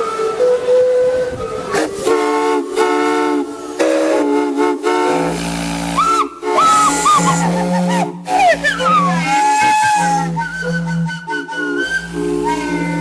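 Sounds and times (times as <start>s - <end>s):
steam hissing: 0.0s - 13.0s
steam whistles blowing: 0.0s - 13.0s.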